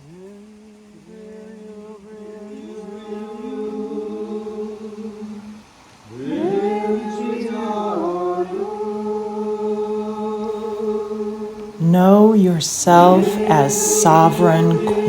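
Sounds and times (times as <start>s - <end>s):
voices chanting held tones: 0.0s - 15.0s.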